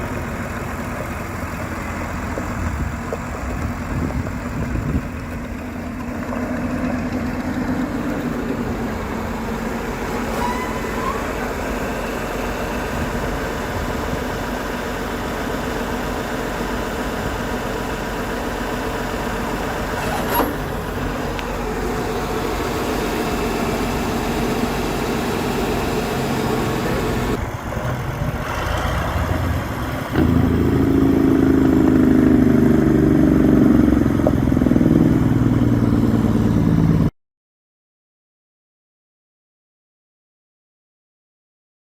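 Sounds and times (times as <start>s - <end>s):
tractor diesel engine idling: 0.0s - 37.1s.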